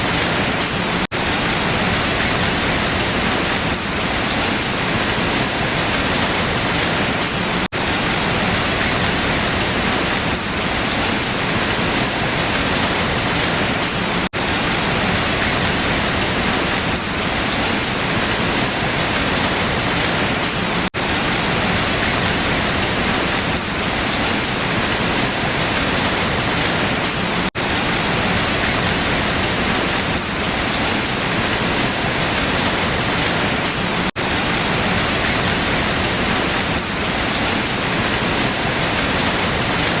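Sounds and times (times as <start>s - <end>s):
rain falling on leaves: 0.0s - 40.0s.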